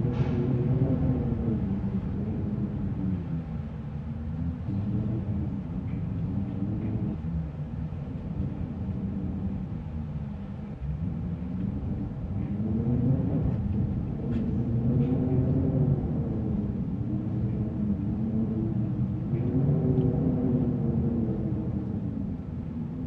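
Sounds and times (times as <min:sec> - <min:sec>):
wind moaning: 0:00.0 - 0:23.0.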